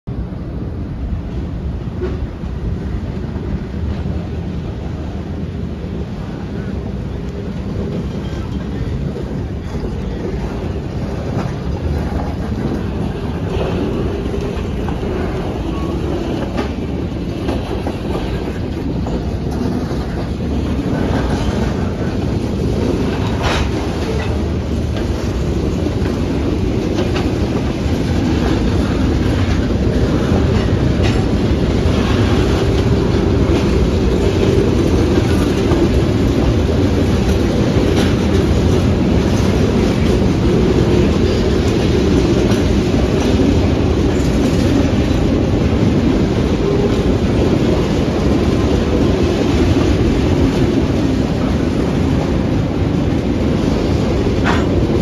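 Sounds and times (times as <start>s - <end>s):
train wheels rumbling on rails: 0.0s - 55.0s
wheels clunking over rail joints: 5.9s - 55.0s.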